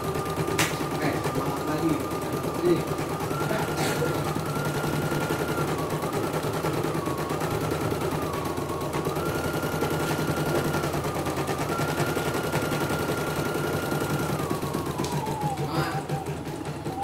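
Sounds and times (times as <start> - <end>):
motor whine: 0.0 - 17.0.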